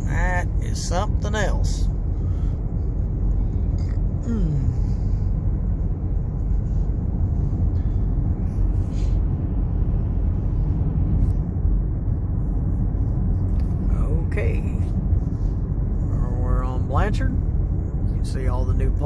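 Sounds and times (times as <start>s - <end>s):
car cabin road rumble: 0.0s - 19.0s.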